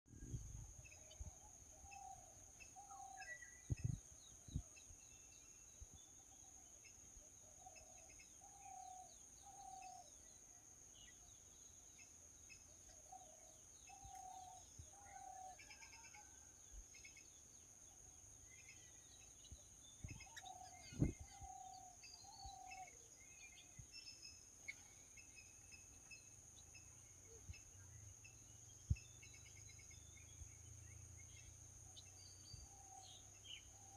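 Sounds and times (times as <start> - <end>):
birds calling with low falling notes: 0.1 - 33.9
faint high bird chirps: 0.1 - 33.9.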